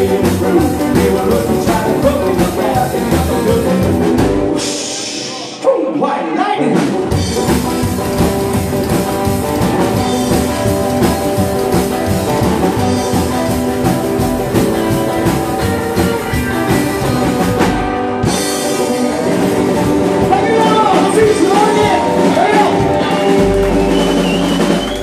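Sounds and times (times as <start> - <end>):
drum kit beat: 0.0 - 5.6, 6.7 - 25.0
electric guitar: 0.0 - 25.0.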